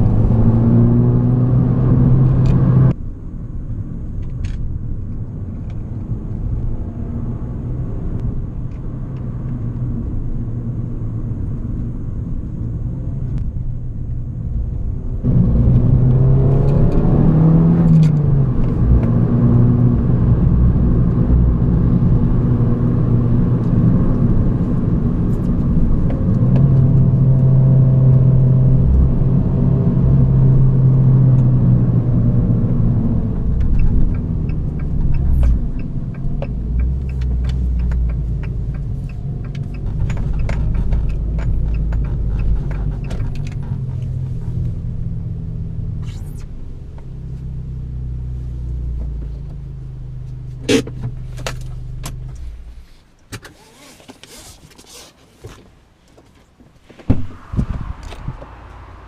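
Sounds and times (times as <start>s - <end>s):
car engine drone: 0.0s - 54.6s, 56.8s - 59.0s
road noise: 0.0s - 59.0s.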